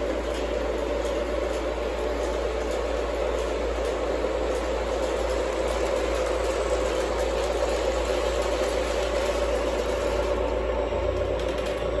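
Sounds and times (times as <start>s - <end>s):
model train wheels and motors whirring: 0.0s - 12.0s.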